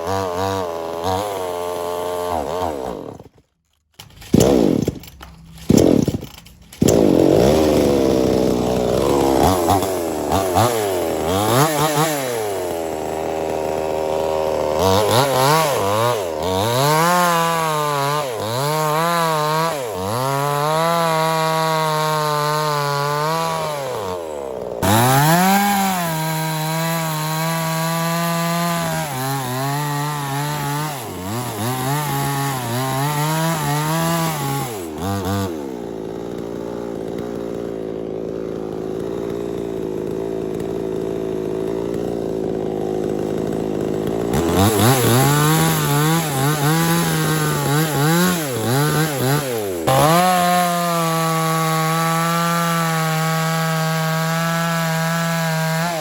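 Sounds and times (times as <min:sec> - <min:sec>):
chainsaw revving and bogging: 0:00.0 - 0:56.0.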